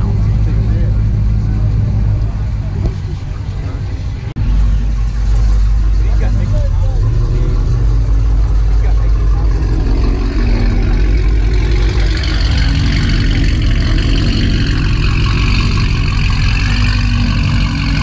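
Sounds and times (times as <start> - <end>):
car engine running at low speed: 0.0 - 18.0.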